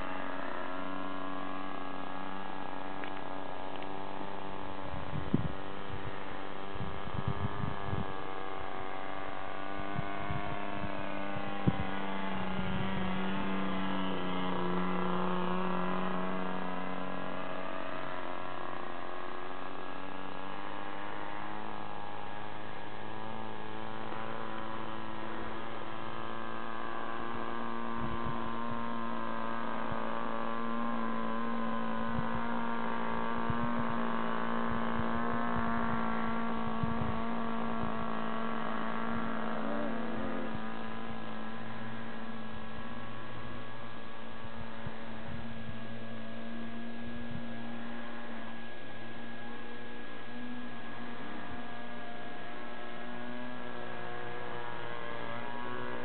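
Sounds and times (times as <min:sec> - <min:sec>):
model aircraft engine droning: 0:00.0 - 0:56.0.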